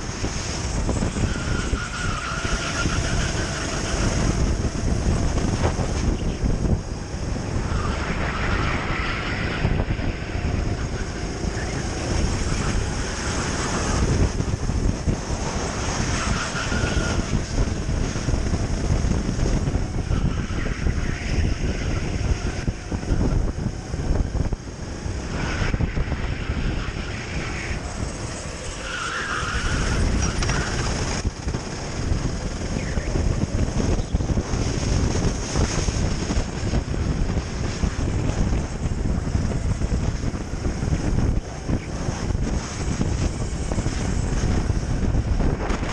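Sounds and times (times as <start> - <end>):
kart engine running hard: 0.0 - 45.9
wind buffeting microphone: 0.0 - 45.9.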